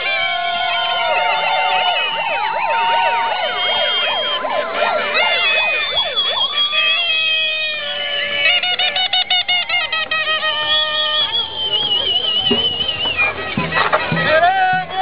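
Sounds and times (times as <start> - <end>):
sirens wailing: 0.0 - 15.0.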